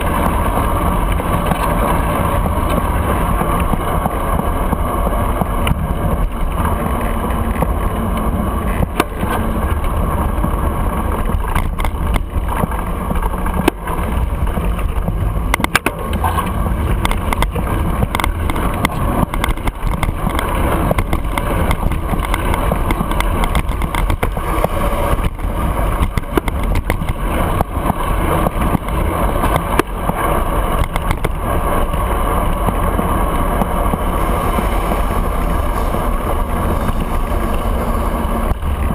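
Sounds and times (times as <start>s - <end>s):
bicycle clicks and knocks over bumps: 0.0s - 38.9s
road rumble: 0.0s - 38.9s
wind noise: 0.0s - 38.9s.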